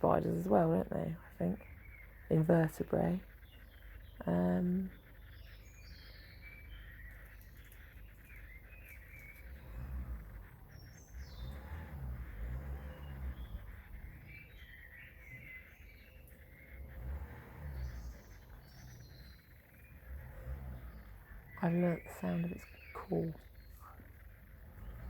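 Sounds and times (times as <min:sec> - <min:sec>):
low rumble: 0:00.0 - 0:25.0
songbirds chirping: 0:00.0 - 0:25.0.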